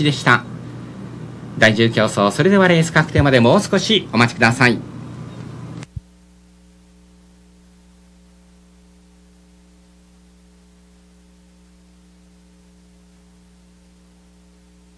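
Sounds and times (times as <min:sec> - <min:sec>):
electrical mains hum: 0:00.0 - 0:14.9.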